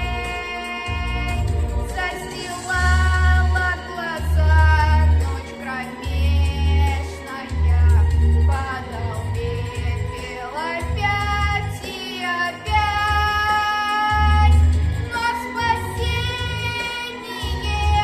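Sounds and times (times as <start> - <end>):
backing track with pulsing bass: 0.0 - 18.0
child singing: 0.0 - 18.0.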